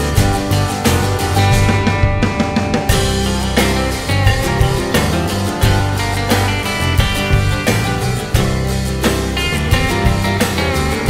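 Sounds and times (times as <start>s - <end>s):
steady beat: 0.0s - 11.0s
strummed guitar: 0.0s - 11.0s.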